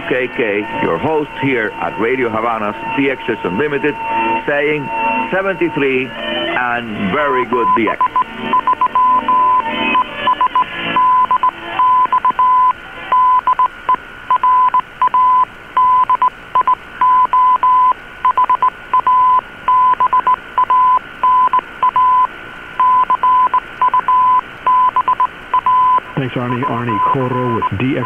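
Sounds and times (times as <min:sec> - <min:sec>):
radio band hiss: 0:00.0 - 0:17.0, 0:17.9 - 0:28.0
morse code tone: 0:00.4 - 0:13.7, 0:14.3 - 0:28.0.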